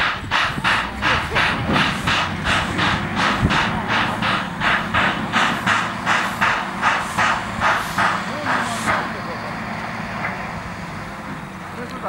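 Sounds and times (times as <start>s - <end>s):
steam engine chuffing: 0.0s - 12.0s.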